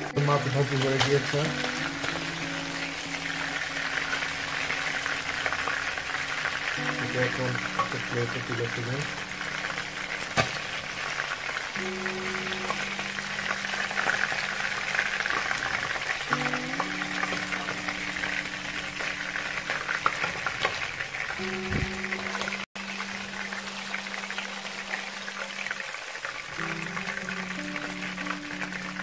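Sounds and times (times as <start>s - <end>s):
soft background music: 0.0s - 20.7s, 21.4s - 29.0s
fish sizzling in hot oil: 0.3s - 29.0s.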